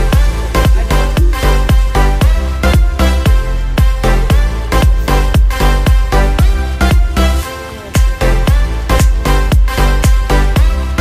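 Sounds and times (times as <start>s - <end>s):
steady kick drum beat: 0.0s - 7.4s, 8.0s - 11.0s
electronic dance music: 0.0s - 11.0s.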